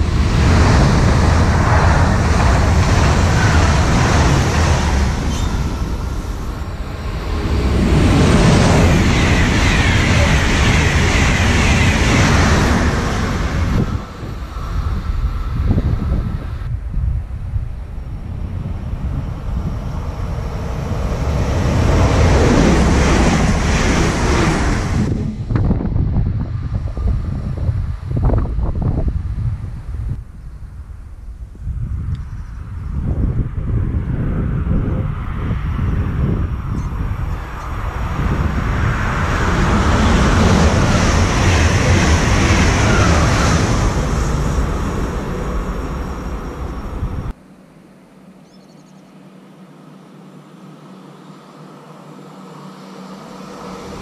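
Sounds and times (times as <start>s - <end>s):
wind buffeting microphone: 0.0s - 47.4s
high-speed train passing: 0.0s - 54.0s.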